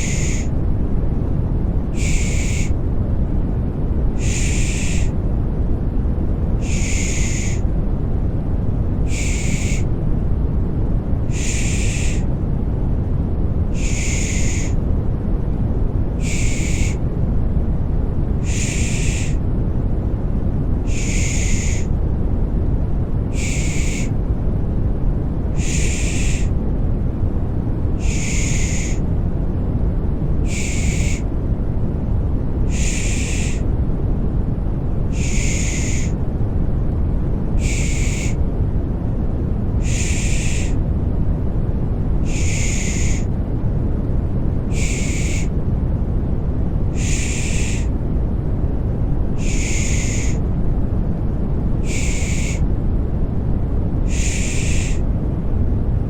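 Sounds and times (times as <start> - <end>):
deep rumbling noise: 0.0 - 56.0.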